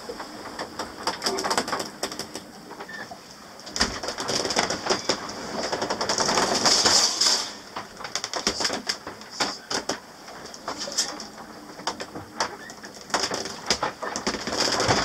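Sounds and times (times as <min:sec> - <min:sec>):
boat cabin creaks and knocks: 0:00.0 - 0:15.0.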